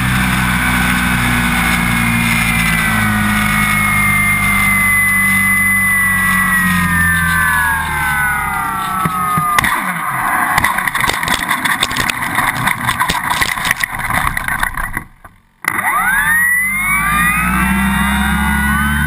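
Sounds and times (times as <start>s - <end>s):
electric motor and propeller whine: 0.0s - 14.9s, 15.7s - 19.0s
plane rattling over rough pavement: 0.0s - 16.2s.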